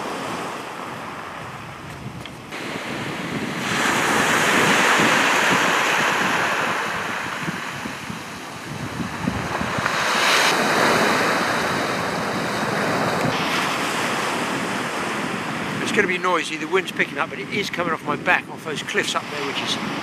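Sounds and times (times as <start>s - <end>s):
surf breaking on shore: 0.0s - 20.0s
wind buffeting microphone: 0.0s - 20.0s.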